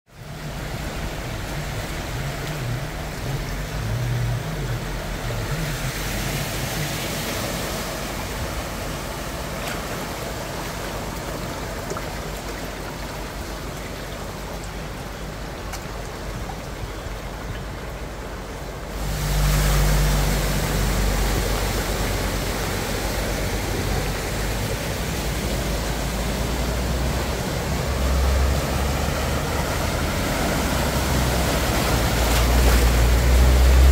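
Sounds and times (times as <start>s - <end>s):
floodwater rushing: 0.1s - 33.9s
tyres splashing through water: 0.1s - 33.9s
car engine hum: 0.2s - 12.4s, 14.2s - 33.9s.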